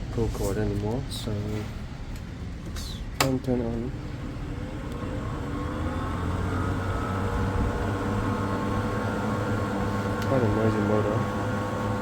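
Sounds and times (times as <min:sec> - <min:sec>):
exhaust fan motor humming: 0:00.0 - 0:12.0.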